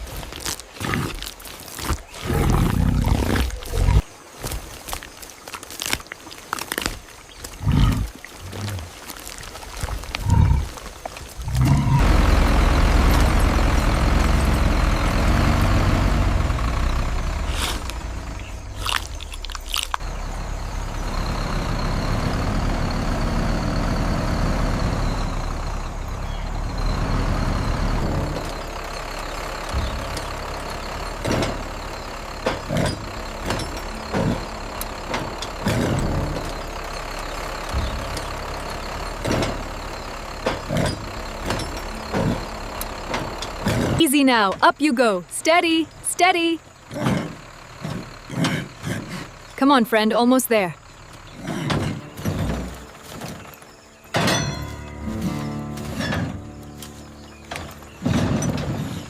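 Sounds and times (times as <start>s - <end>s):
heavy vehicle engine rumbling: 7.6s - 59.0s.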